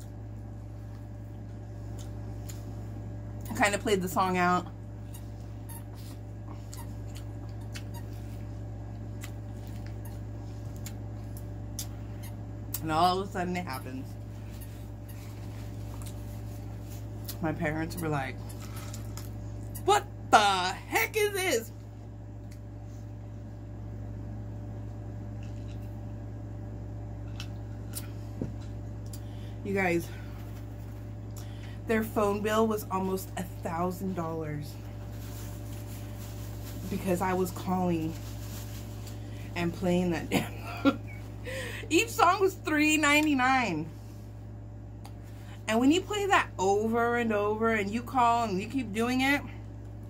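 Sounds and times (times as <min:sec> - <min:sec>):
low hum: 0:00.0 - 0:50.0.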